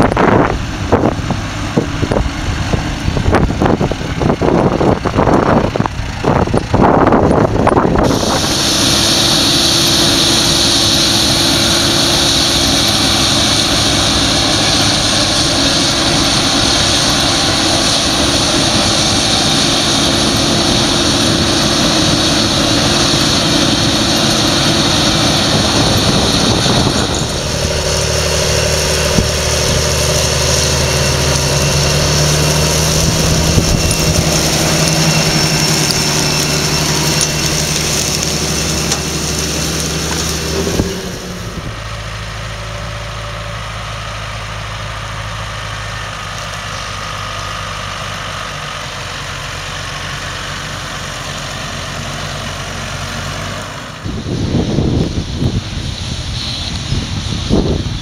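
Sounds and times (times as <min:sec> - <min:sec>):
combine harvester drone and hiss: 0:00.0 - 0:58.0
tractor diesel engine under load: 0:00.0 - 0:58.0
tractor with trailer rumbling: 0:00.0 - 0:58.0.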